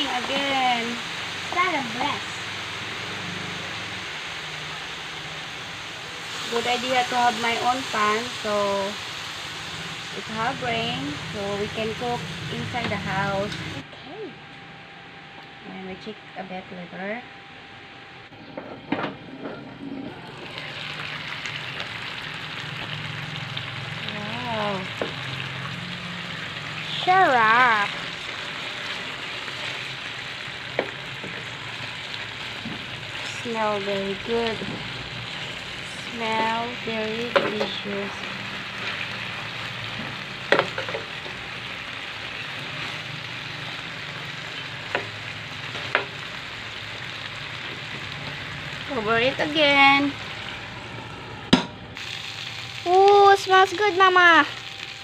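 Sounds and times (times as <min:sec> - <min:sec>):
chicken sizzling in grill pan: 0:00.0 - 0:13.8, 0:19.3 - 0:55.0.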